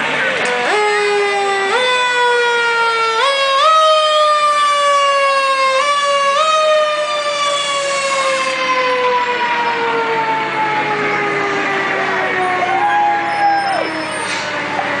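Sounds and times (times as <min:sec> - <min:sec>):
fire truck siren winding down: 0:00.0 - 0:15.0.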